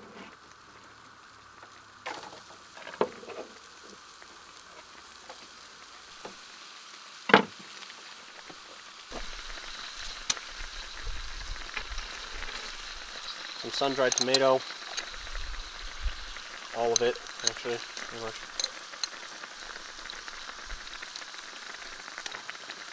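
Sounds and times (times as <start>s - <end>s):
onion sizzling in a pan: 0.0s - 22.9s.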